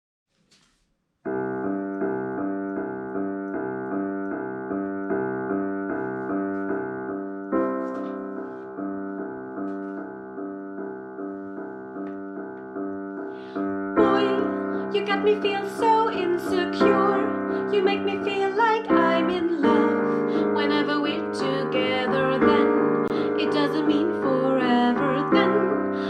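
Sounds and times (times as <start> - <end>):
solo piano chords: 1.2 - 26.0.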